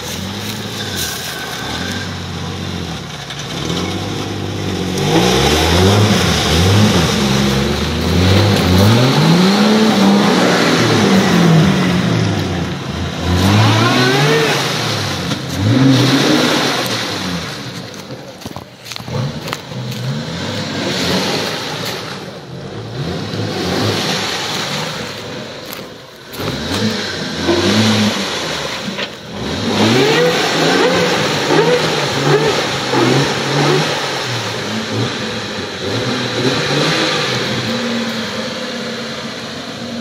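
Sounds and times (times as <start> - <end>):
engine revving hard: 0.0 - 17.8, 19.0 - 40.0.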